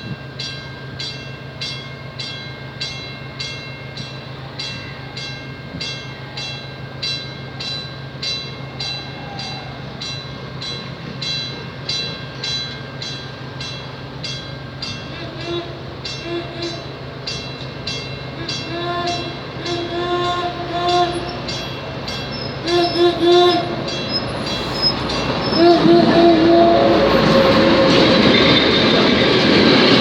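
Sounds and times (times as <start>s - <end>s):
train running hum: 0.0s - 30.0s
wheels clicking over rail joints: 0.0s - 30.0s.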